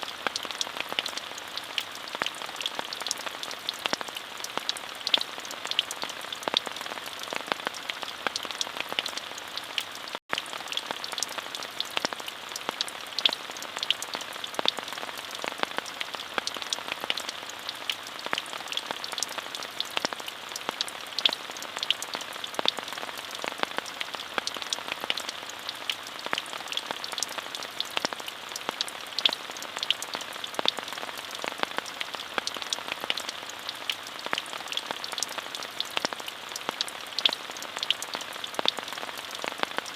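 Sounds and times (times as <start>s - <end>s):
close raindrops ticking: 0.0s - 39.9s
rain hiss: 0.0s - 39.9s.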